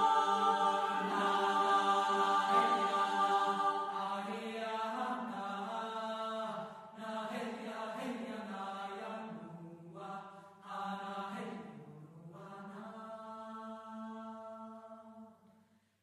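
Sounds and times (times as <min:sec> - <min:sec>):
chant-like vocal music: 0:00.0 - 0:15.4.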